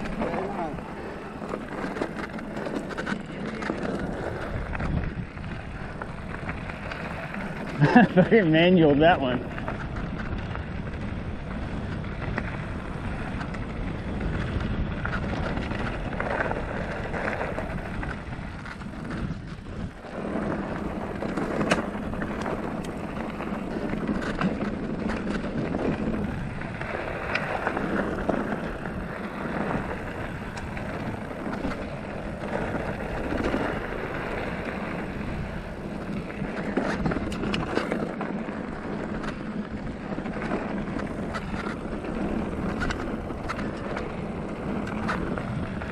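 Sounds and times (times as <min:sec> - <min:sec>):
bike clacking and rattling: 0:00.0 - 0:45.9
bike tyres on gravel: 0:00.0 - 0:45.9
wind on microphone: 0:00.0 - 0:45.9.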